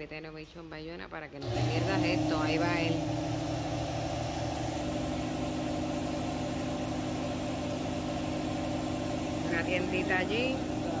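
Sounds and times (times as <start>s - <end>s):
air compressor running: 1.4s - 11.0s.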